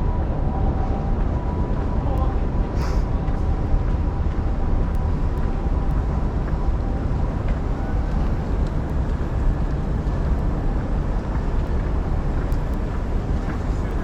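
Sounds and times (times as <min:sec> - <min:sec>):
low city rumble: 0:00.0 - 0:14.0.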